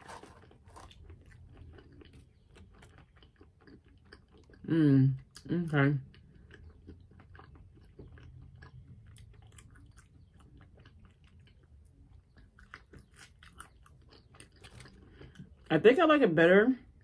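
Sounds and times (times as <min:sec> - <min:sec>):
person chewing crunchy food: 0:00.0 - 0:15.7.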